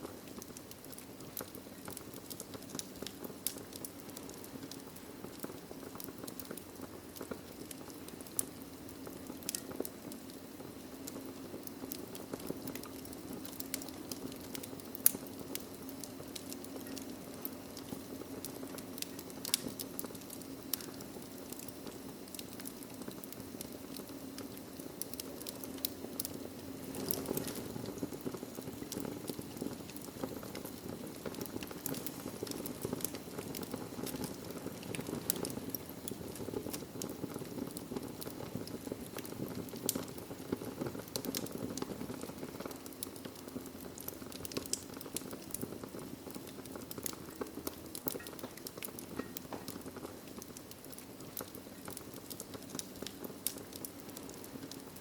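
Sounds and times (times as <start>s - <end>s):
sharp pops of burning wood: 0.0s - 55.0s
wood fire crackling: 0.0s - 55.0s.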